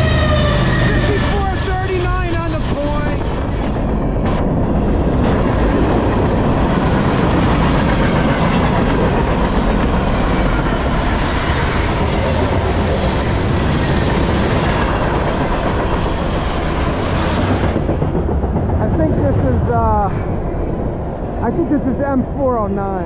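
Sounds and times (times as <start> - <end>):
train wheels rumbling on rails: 0.0 - 22.8.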